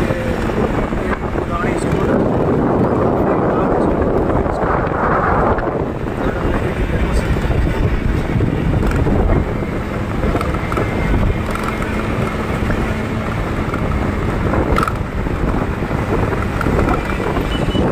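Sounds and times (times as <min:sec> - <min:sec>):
vehicle road and engine noise: 0:00.0 - 0:17.9
wind buffeting microphone: 0:00.0 - 0:17.9.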